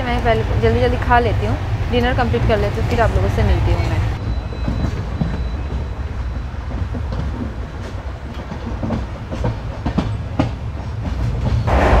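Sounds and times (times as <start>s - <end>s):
train running low rumble: 0.0s - 12.0s.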